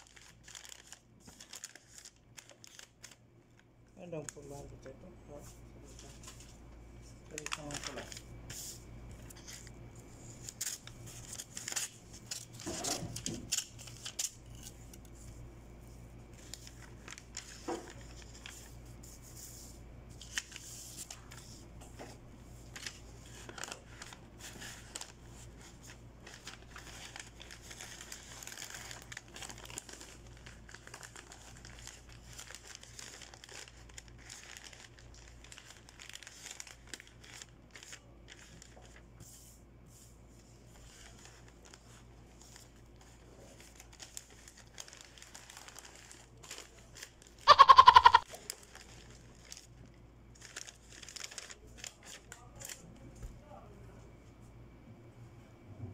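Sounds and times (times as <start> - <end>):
wrapping paper crinkling: 0.0 - 53.0.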